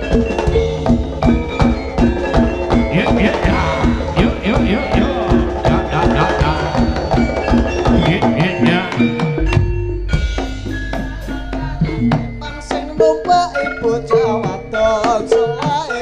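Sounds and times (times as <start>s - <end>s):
metallophone notes: 0.0s - 16.0s.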